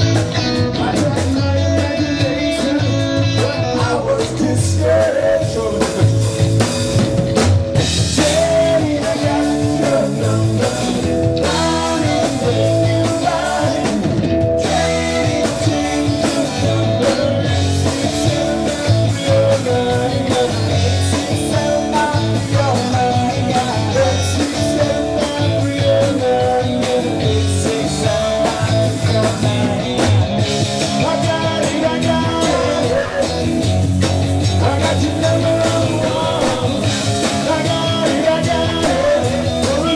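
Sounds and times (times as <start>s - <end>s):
man singing into microphone: 0.0s - 6.5s, 8.1s - 30.2s, 30.8s - 33.6s, 34.4s - 39.9s
bass guitar: 0.0s - 39.9s
drum kit: 0.0s - 39.9s
electric guitar: 0.0s - 39.9s.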